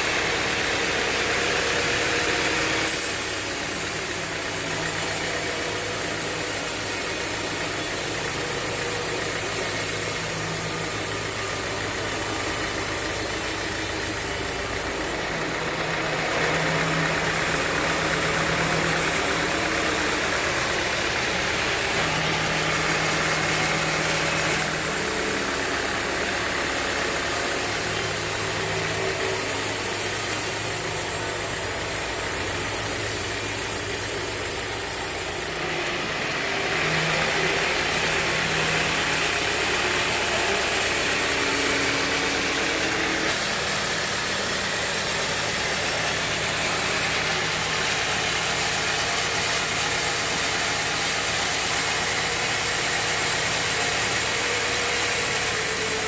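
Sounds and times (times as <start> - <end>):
band saw machinery droning: 0.0 - 56.0.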